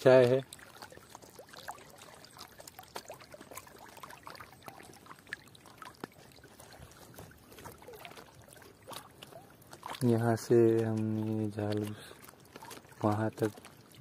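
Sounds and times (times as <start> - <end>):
water splashing and dripping: 0.0 - 14.0.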